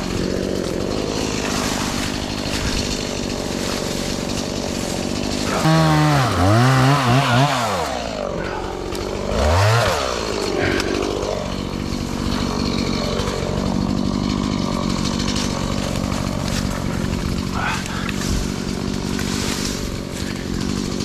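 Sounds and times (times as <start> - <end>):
chainsaw engine revving: 0.0 - 21.0.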